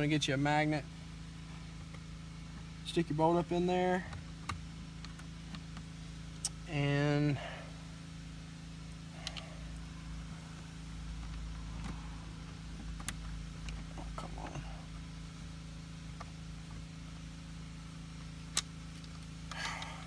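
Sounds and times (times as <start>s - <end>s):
low hum in car cabin: 0.0s - 20.0s.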